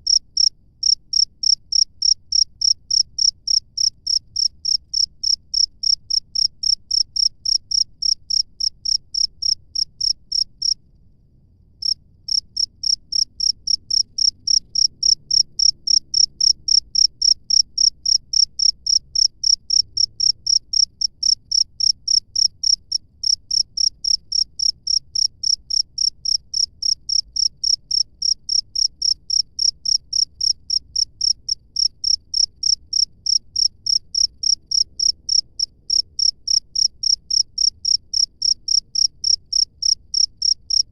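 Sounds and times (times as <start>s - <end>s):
cricket chirping: 0.0s - 10.8s, 11.8s - 40.9s.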